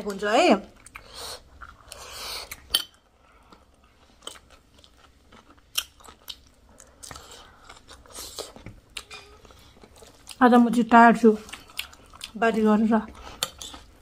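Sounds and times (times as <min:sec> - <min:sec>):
chewing and crunching snack: 0:00.7 - 0:14.0.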